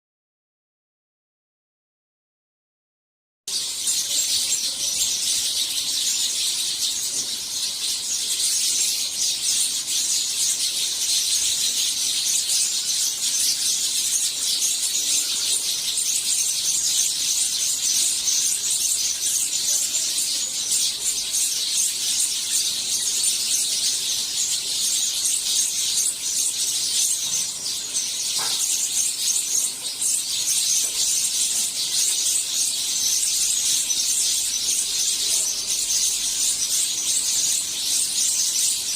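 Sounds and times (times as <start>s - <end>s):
sparrows chirping: 3.5s - 38.9s.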